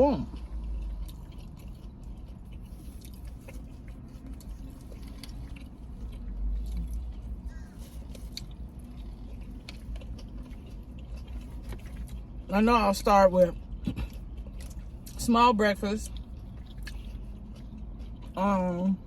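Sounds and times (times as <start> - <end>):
close-miked chewing: 0.0 - 19.0
low steady rumble: 0.0 - 19.0.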